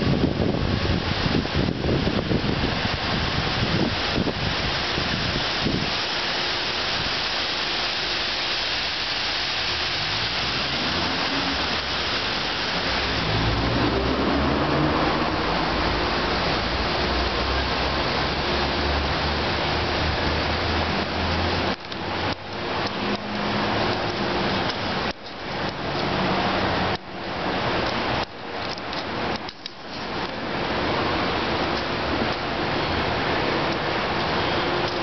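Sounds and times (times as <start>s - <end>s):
outdoor hiss: 0.0s - 35.0s.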